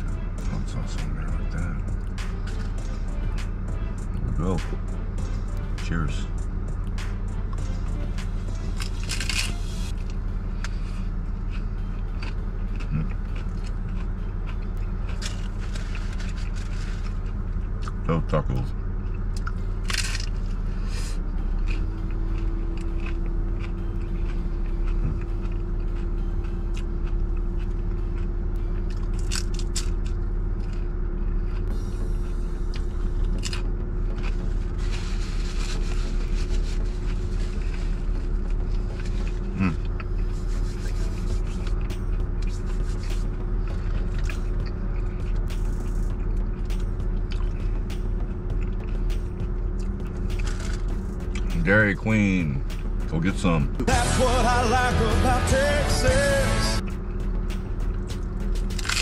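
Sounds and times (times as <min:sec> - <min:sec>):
crunching and chewing taco: 0:00.0 - 0:53.1, 0:53.9 - 0:59.0
car engine hum: 0:00.0 - 0:59.0.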